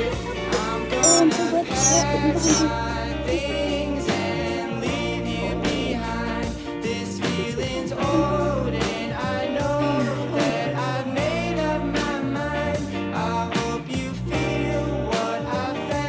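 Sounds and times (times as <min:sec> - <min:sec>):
music with singing and beat: 0:00.1 - 0:16.0.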